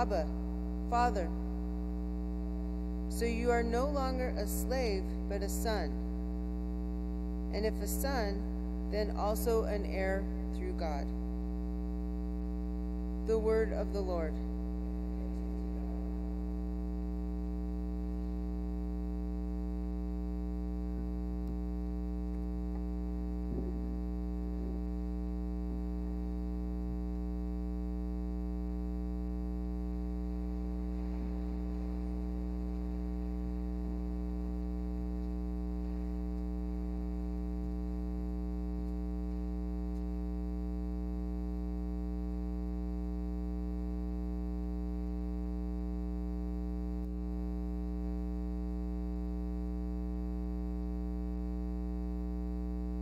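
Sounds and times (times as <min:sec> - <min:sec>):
electrical mains hum: 0:00.0 - 0:53.0.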